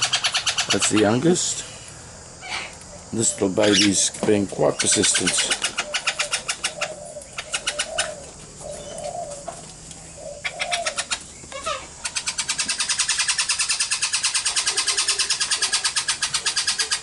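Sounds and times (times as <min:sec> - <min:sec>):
parrot chattering calls: 0:00.0 - 0:01.2, 0:02.4 - 0:04.0, 0:04.7 - 0:09.3, 0:10.2 - 0:17.0.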